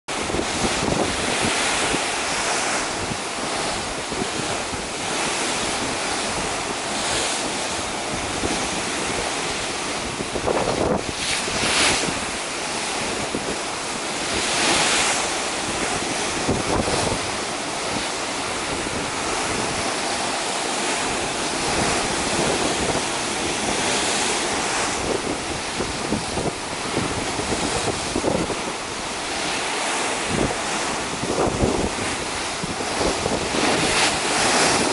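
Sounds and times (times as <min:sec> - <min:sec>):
rough sea rushing: 0:00.1 - 0:34.9
wind buffeting microphone: 0:00.1 - 0:34.9.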